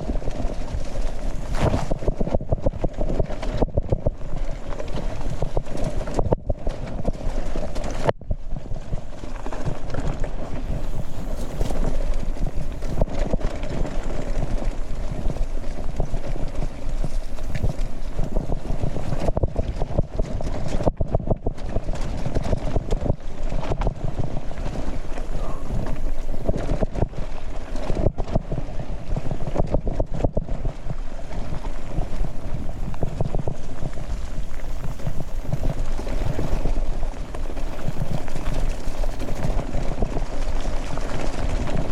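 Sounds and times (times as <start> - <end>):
bike rattling and knocking: 0.0 - 41.9
wind noise on microphone: 0.0 - 41.9.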